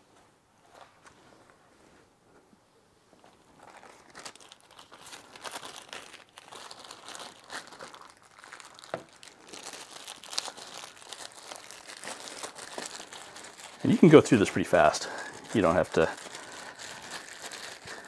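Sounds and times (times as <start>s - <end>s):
leather glove crinkling: 3.2s - 18.0s.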